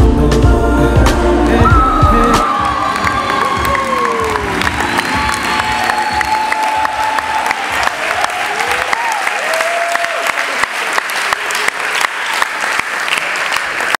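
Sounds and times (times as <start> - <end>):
people cheering: 1.6 - 14.0
audience clapping: 2.4 - 14.0.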